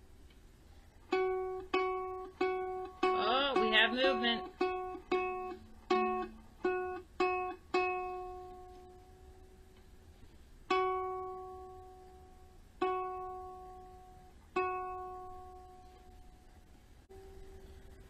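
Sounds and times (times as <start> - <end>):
ukulele string plucked: 1.1 - 9.9, 10.7 - 16.4.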